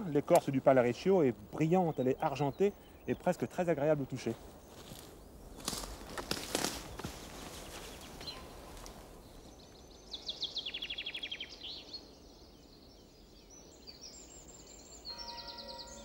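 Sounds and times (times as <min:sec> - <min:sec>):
outdoor background hiss: 0:00.0 - 0:16.0
songbird chirping and trilling: 0:00.0 - 0:16.0.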